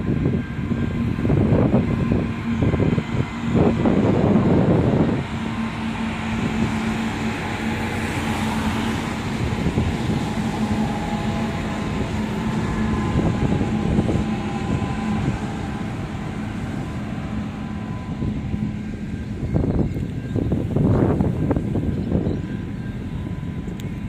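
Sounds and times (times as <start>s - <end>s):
diesel locomotive engine hum: 0.0s - 24.0s
wind buffeting microphone: 0.0s - 24.0s.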